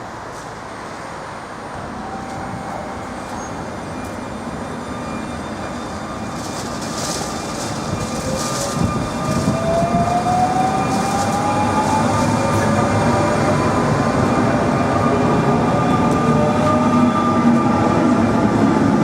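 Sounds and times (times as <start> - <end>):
train rumble: 0.0 - 19.0
rising whine: 2.0 - 18.6.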